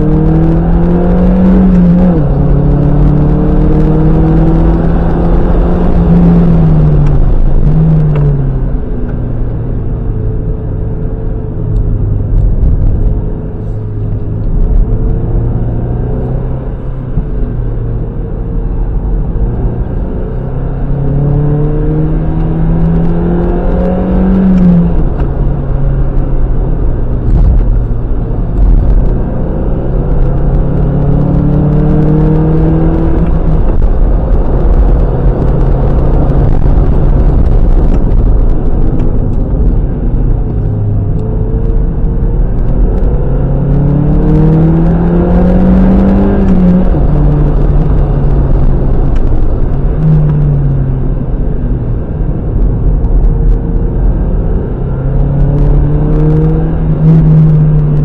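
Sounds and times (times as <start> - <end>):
car engine revving: 0.0 - 58.0
steady low rumble: 0.0 - 58.0.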